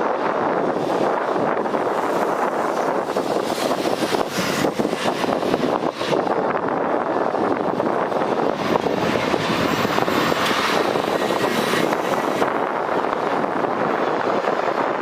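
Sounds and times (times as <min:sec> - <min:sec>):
jet engines rushing: 0:00.0 - 0:15.0
wind gusting on microphone: 0:00.0 - 0:15.0.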